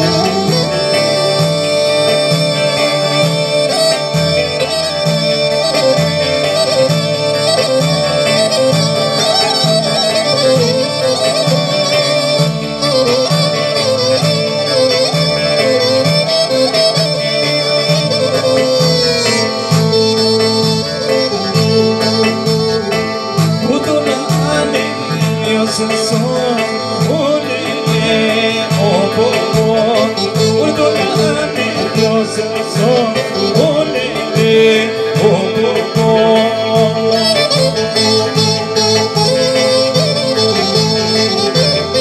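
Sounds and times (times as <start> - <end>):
man singing into microphone: 0.0 - 12.0, 13.6 - 42.0
clarinet melody: 0.0 - 42.0
electronic keyboard accompaniment: 0.0 - 42.0.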